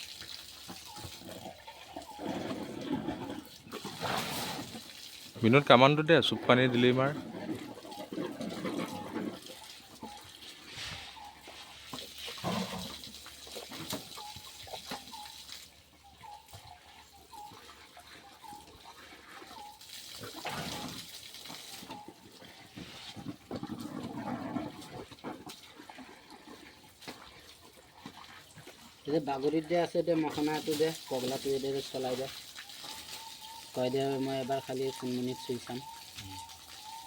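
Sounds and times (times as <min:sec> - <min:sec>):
water splashing and gushing: 0:00.0 - 0:37.0.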